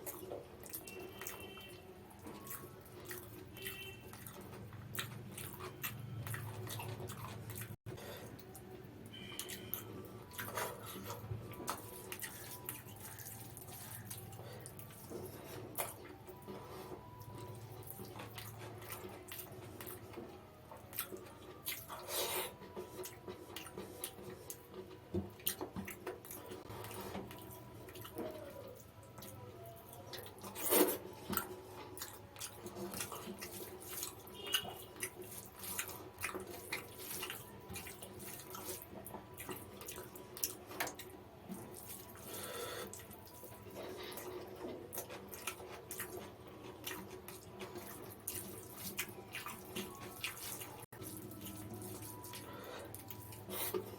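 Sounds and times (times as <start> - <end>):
wet chewing and lip-smacking: 0.0 - 53.9.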